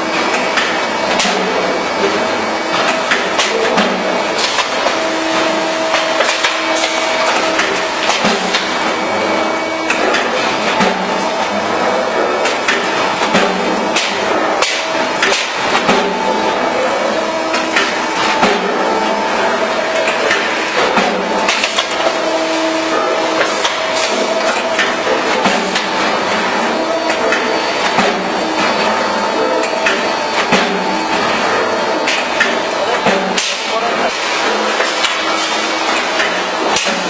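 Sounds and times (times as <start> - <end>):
cutting machine humming: 0.0 - 36.8.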